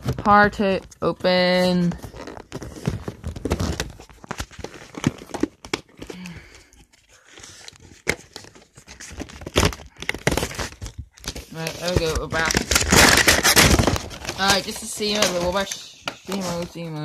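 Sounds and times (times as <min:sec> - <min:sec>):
packaging rustling and scraping: 0:00.0 - 0:17.0.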